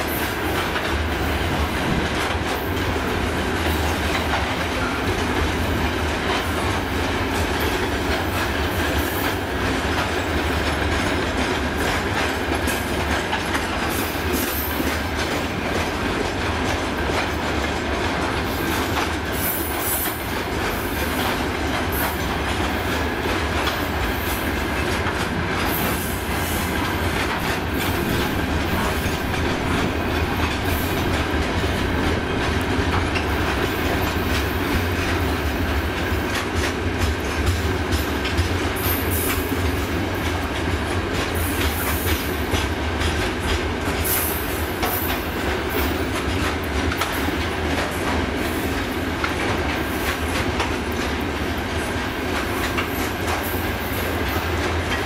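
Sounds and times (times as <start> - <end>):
clickety-clack over rail joints: 0.0 - 55.0
steel wheels rumbling on rail: 0.0 - 55.0.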